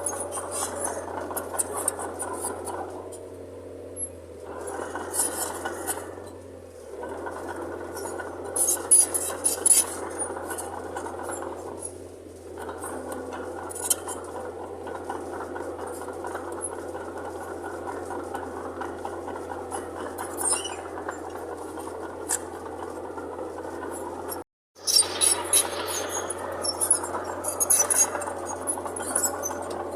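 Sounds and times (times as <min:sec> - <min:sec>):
bulldozer engine hum: 0:00.0 - 0:29.9.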